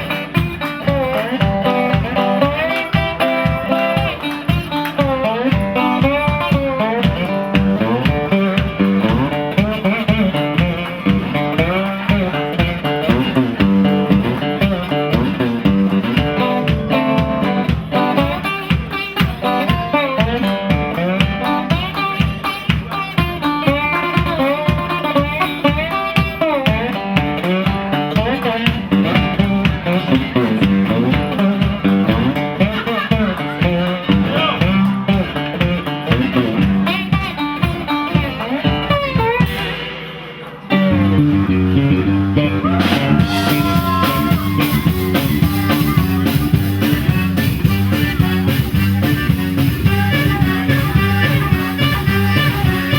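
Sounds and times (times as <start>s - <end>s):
drum beat: 0.0s - 40.7s, 42.6s - 52.9s
guitar: 0.0s - 52.9s
live band playing: 0.0s - 52.9s.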